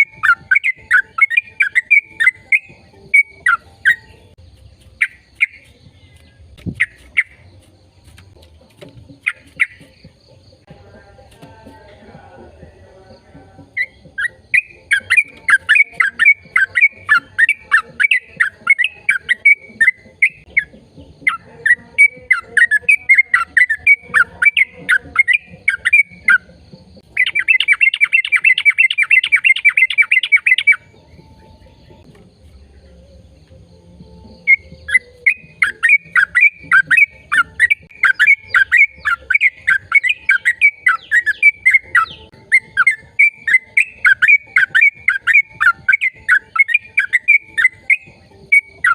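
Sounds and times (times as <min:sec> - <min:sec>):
bird trilling: 0:00.0 - 0:04.4, 0:05.0 - 0:07.6, 0:09.1 - 0:10.6, 0:13.6 - 0:32.1, 0:34.3 - 0:48.9
bird chirping: 0:00.0 - 0:48.9.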